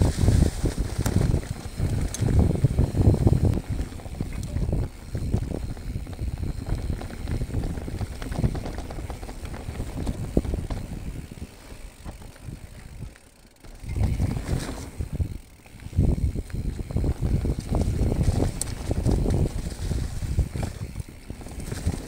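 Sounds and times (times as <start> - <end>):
bike rattling over bumps: 0.0 - 22.0
tyres crunching over dry leaves: 0.0 - 22.0
wind rumble on microphone: 0.0 - 22.0.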